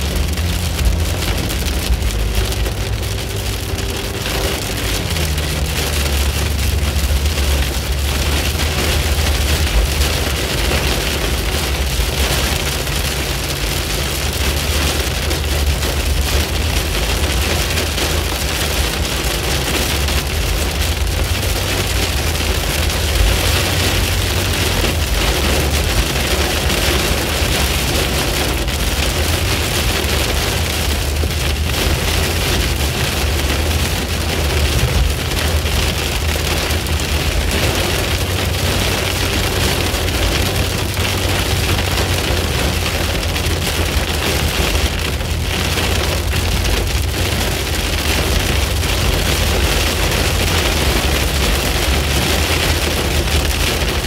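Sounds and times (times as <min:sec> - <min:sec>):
car road rumble: 0:00.0 - 0:54.0
heavy rain on car windshield: 0:00.0 - 0:54.0.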